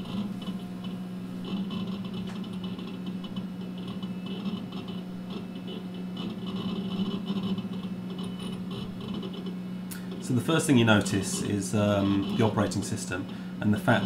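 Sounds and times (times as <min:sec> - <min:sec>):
computer humming: 0:00.0 - 0:14.0
hard disk clicking: 0:00.0 - 0:14.0.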